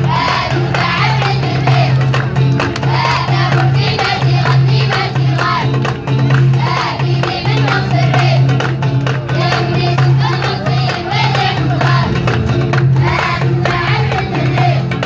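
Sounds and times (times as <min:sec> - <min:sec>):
children's choir singing: 0:00.0 - 0:15.0
percussion beat: 0:00.0 - 0:15.0.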